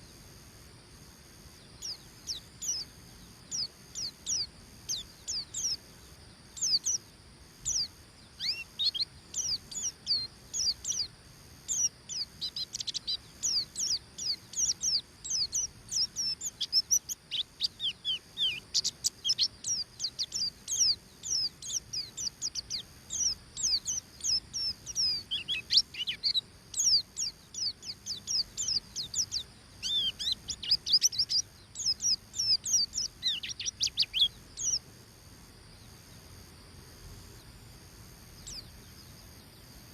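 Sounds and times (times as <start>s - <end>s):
bird twittering high chirps: 1.5s - 34.9s, 37.3s - 39.9s.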